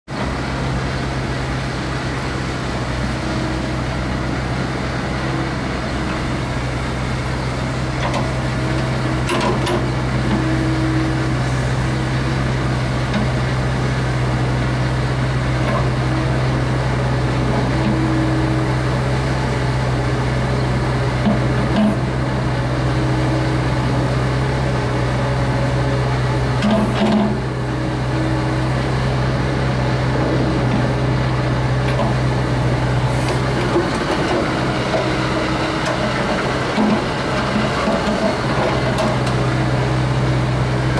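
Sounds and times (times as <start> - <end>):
diesel engine idling: 0.1 - 40.9.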